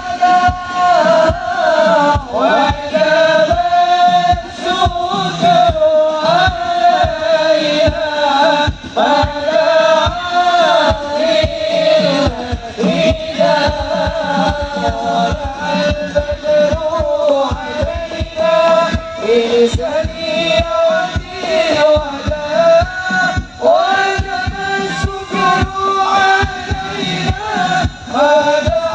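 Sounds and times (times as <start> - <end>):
frame drums beating: 0.0 - 28.9
person chanting devotional melody: 0.0 - 28.9.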